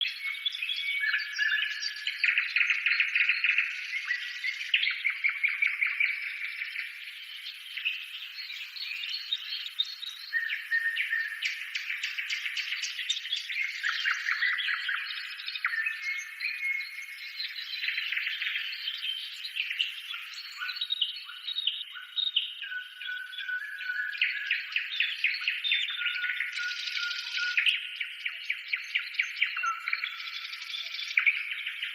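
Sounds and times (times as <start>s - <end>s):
songbirds chirping: 0.0s - 31.9s.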